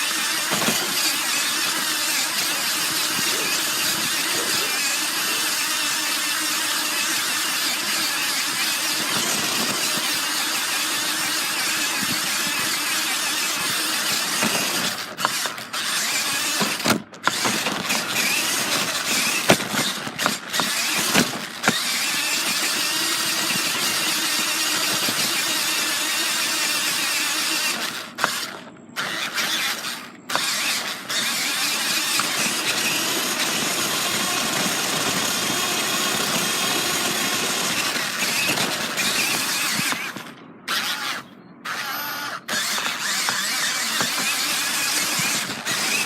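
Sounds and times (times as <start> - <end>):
radio-controlled car whirring: 0.0 - 46.0.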